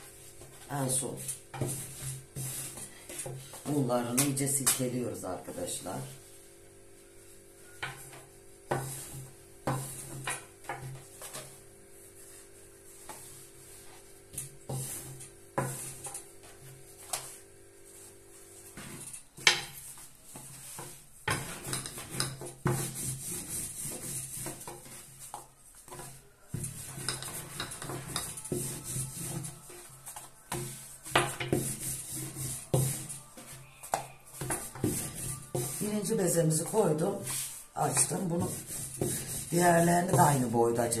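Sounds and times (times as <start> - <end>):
rolling pin on countertop: 0.0 - 5.0, 7.0 - 41.0.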